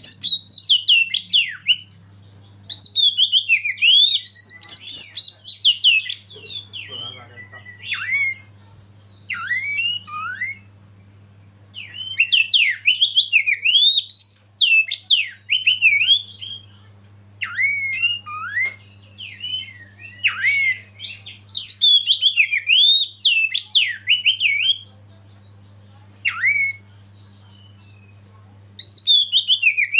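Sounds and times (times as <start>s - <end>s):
magpie-robin singing: 0.0s - 29.9s.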